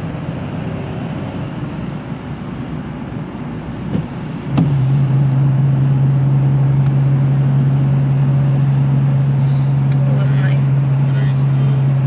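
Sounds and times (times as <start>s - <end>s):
car road noise: 0.0s - 12.0s
steady low drone: 0.0s - 12.0s.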